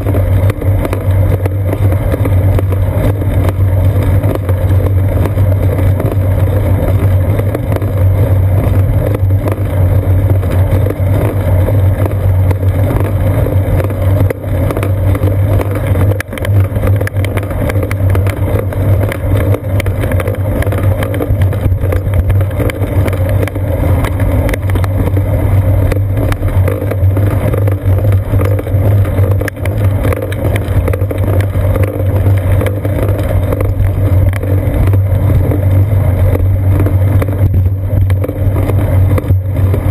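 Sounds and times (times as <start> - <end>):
road vibration rumble: 0.0 - 39.9.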